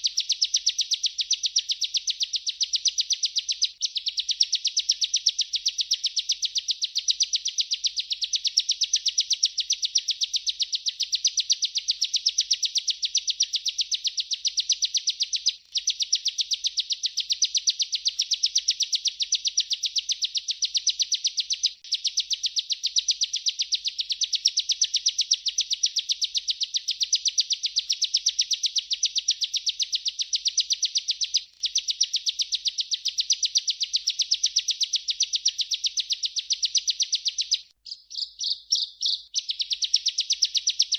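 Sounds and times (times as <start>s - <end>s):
bird singing rapid high chirps: 0.0s - 40.9s.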